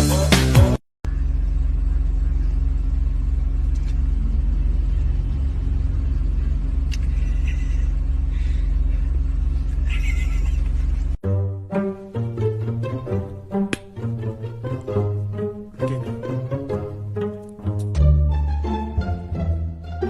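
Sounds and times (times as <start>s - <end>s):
low mechanical rumble and hum: 1.0s - 11.2s, 12.1s - 20.0s.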